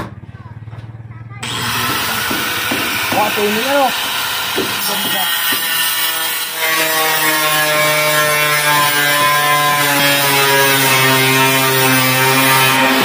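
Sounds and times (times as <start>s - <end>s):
angle grinder cutting metal: 1.4s - 13.0s.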